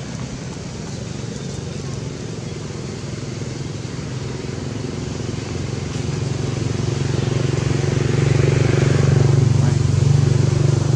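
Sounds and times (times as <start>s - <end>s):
engine droning: 0.0s - 10.9s.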